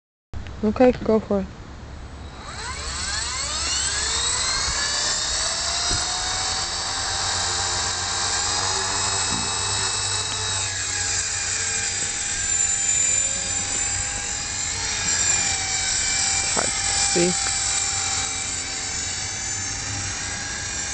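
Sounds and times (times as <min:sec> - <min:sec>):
electric helicopter whine: 0:02.1 - 0:20.9.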